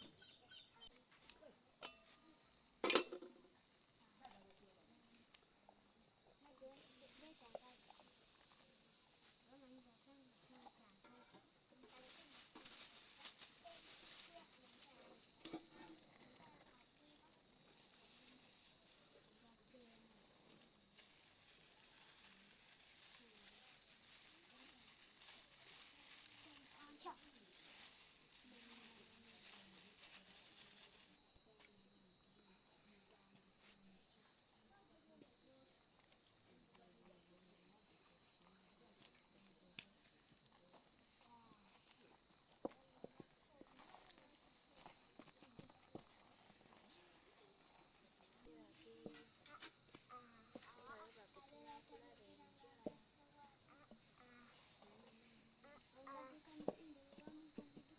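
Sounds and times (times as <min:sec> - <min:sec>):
crickets chirring: 0:00.0 - 0:57.9.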